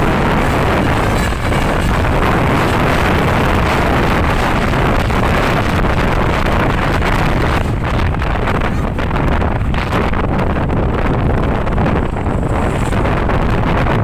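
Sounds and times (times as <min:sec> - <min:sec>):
vehicle engine and road noise: 0:00.0 - 0:14.0
wind buffeting microphone: 0:00.0 - 0:14.0.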